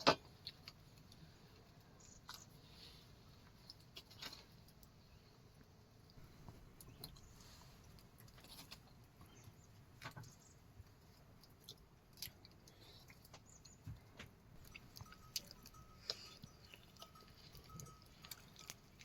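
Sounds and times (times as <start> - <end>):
chewing: 0.2 - 19.0.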